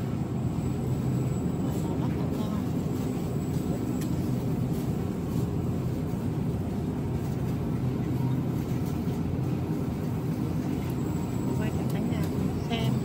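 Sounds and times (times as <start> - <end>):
refrigeration and ventilation hum: 0.0 - 13.0.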